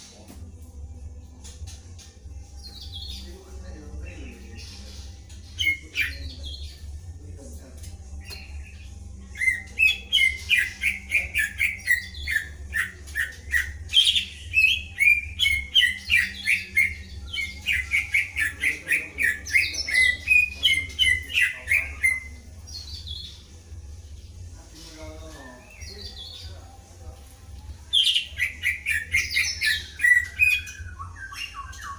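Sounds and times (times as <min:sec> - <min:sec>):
songbird singing: 0:00.0 - 0:31.9
steady low hum: 0:00.0 - 0:31.9.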